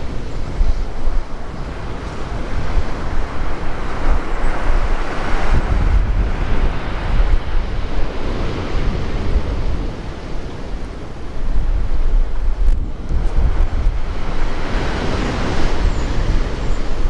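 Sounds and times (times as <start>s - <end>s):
surf breaking on a beach: 0.0s - 17.0s
wind buffeting microphone: 0.0s - 17.0s.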